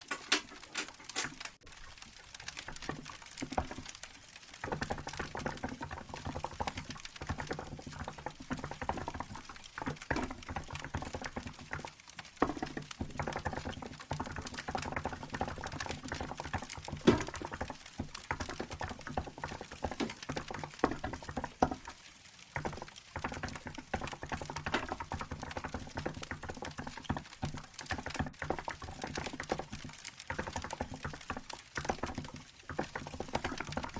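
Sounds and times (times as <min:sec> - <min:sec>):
crackling wood fire: 0:00.0 - 0:33.9.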